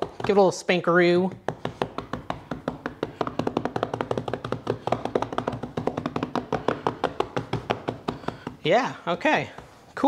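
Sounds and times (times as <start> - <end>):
hands slapping dough: 0.0 - 10.0.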